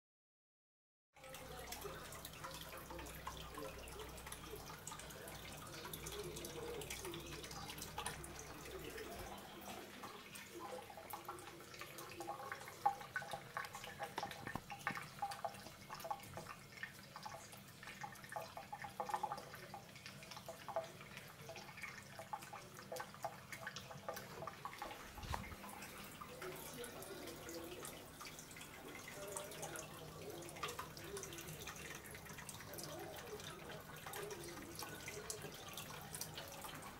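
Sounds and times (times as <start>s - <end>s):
cat lapping water: 1.2s - 36.9s
tap water trickling into sink: 1.2s - 36.9s.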